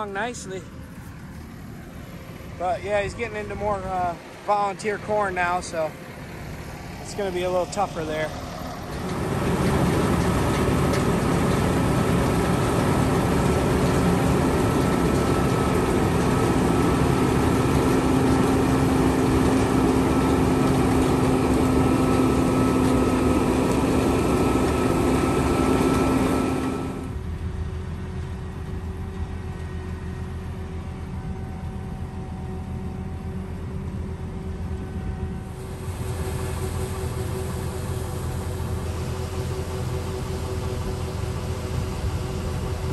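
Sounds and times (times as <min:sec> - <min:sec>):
combine engine and threshing drone: 0:00.0 - 0:42.9.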